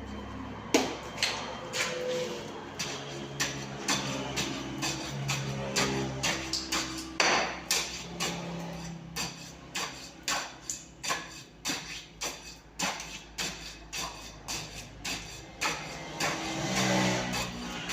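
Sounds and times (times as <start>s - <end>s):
knocks compacting concrete: 0.7s - 17.9s.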